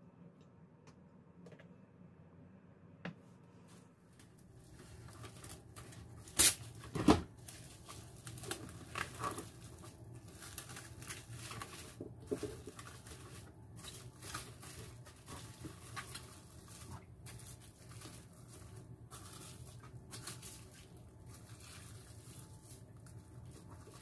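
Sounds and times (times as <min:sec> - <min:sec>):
plastic film crinkling: 0:04.5 - 0:24.0.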